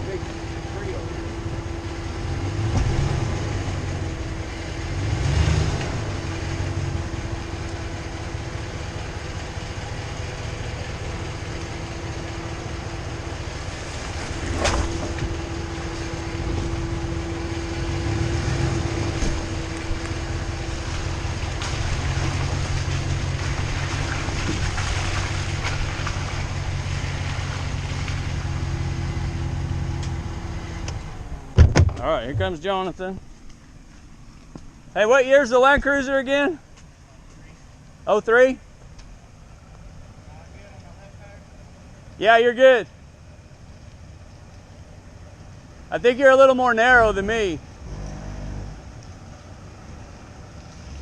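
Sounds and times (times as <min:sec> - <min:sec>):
off-road vehicle engine running: 0:00.0 - 0:51.0.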